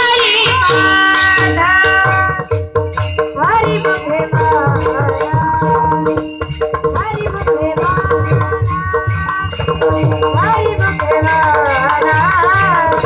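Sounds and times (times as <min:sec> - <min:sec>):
boy singing devotional melody: 0:00.0 - 0:13.0
held accompanying tones: 0:00.0 - 0:13.0
small hand cymbals: 0:00.0 - 0:13.0.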